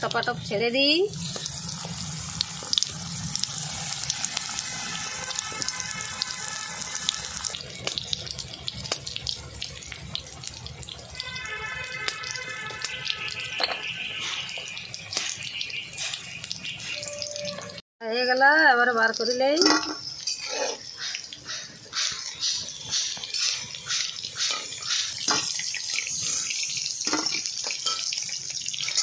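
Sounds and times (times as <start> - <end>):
food deep-frying in hot oil: 0.0 - 29.0.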